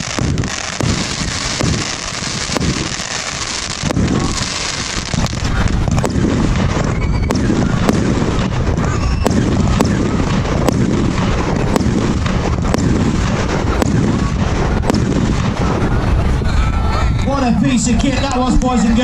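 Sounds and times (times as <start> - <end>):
firework cracks: 0.0 - 17.0
loud rumble: 0.0 - 18.0.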